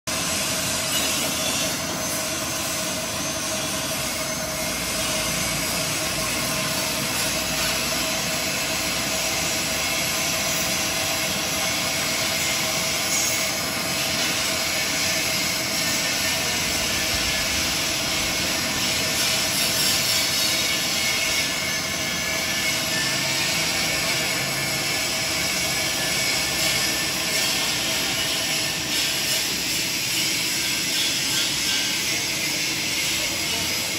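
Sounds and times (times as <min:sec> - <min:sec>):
metalworking machines running: 0:00.1 - 0:33.9.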